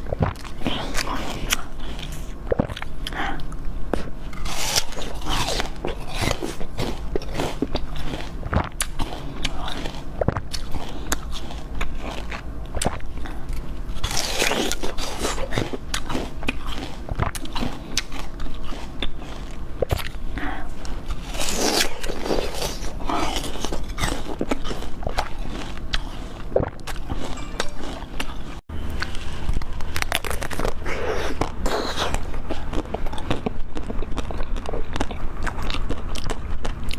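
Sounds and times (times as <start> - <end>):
crackling while eating: 0.0 - 36.9
person biting and chewing: 0.0 - 36.9.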